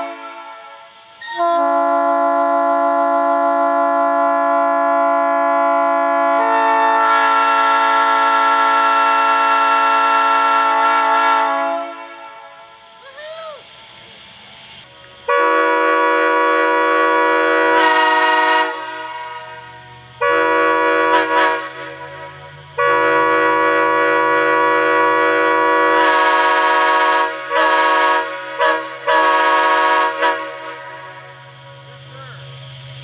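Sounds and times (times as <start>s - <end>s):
locomotive air horn blasts: 0.0s - 12.8s, 15.2s - 32.4s.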